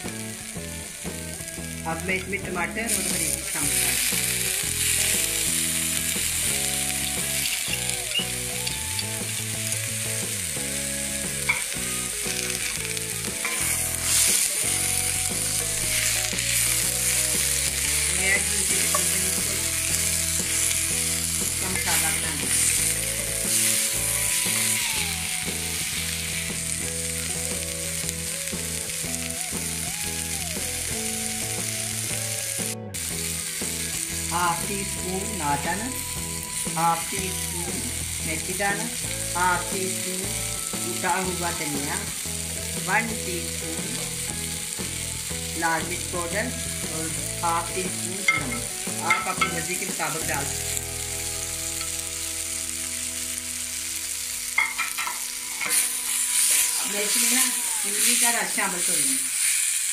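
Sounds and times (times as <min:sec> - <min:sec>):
vegetables sizzling in frying pan: 0:00.0 - 0:59.9.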